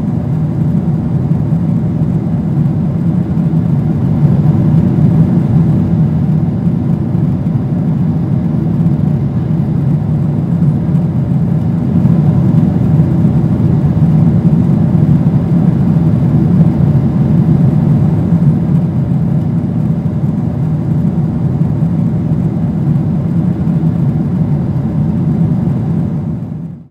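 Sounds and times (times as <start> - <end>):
jet airliner cabin roar: 0.0 - 26.9.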